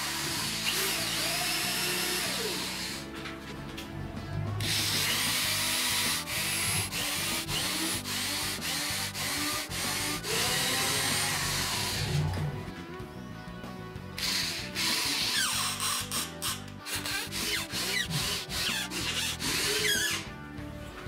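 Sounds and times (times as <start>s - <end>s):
electric drill boring into wood: 0.0s - 3.1s, 4.6s - 12.4s, 14.2s - 20.3s.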